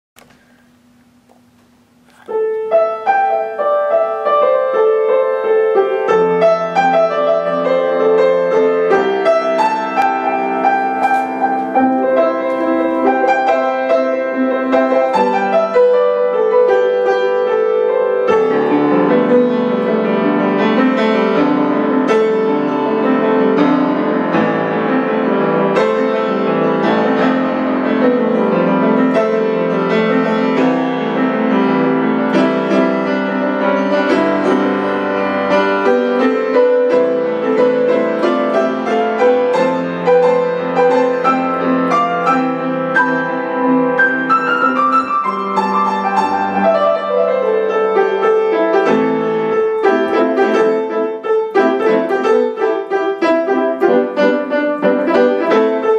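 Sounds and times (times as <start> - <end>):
solo grand piano: 0.2 - 55.9.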